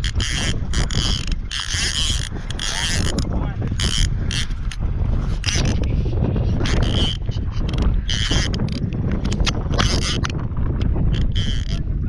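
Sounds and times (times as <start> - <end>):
fishing reel cranking and clicking: 0.0 - 11.9
steady low rumble: 0.0 - 12.0.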